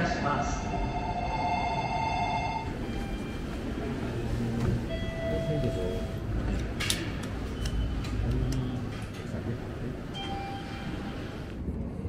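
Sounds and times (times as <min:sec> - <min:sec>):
low rumble of station concourse: 0:00.0 - 0:12.0.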